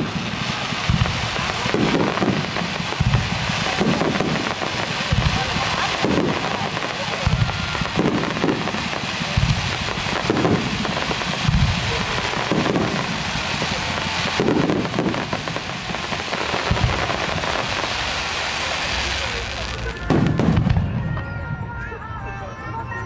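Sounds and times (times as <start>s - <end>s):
firework shells booming: 0.0s - 22.0s
fireworks crackling: 0.0s - 23.0s.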